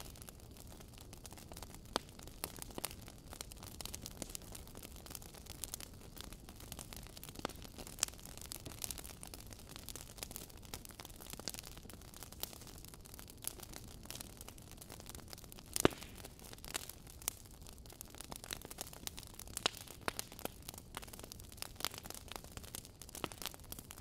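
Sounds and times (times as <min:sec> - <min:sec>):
hiss of burning logs: 0:00.0 - 0:24.0
wood fire crackling: 0:00.0 - 0:24.0.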